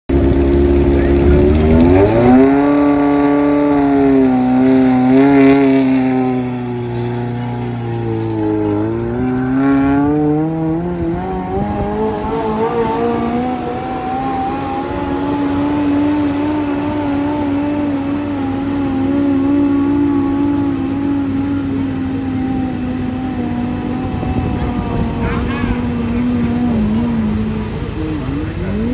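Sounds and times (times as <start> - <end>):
motorcycle engine revving high: 0.1 - 28.9.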